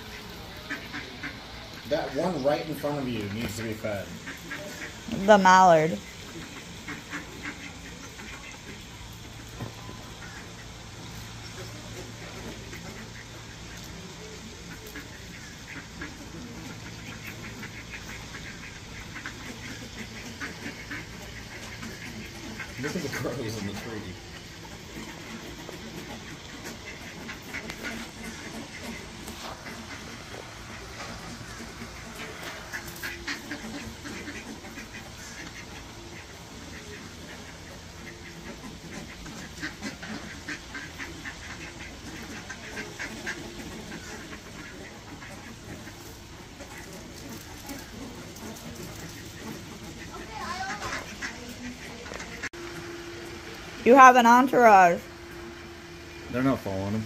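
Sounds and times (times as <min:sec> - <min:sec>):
ducks quacking: 0:00.0 - 0:57.0
steady low hum: 0:00.0 - 0:57.0.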